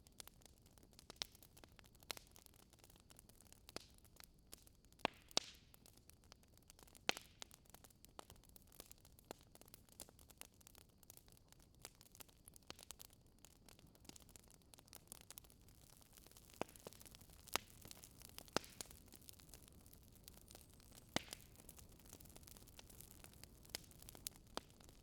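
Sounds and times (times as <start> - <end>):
log fire crackling: 0.1 - 25.0.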